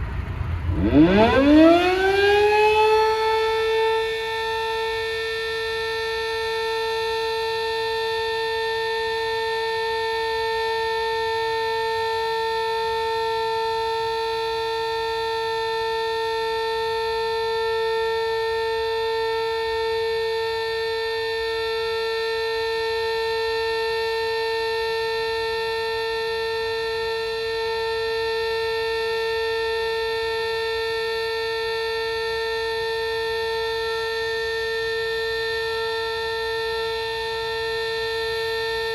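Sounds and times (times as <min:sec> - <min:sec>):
fire siren steady tone: 0:00.0 - 0:38.9.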